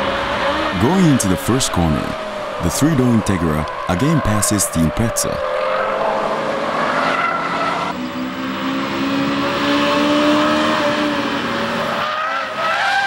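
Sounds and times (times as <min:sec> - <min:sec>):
sports car engines racing: 0:00.0 - 0:13.0.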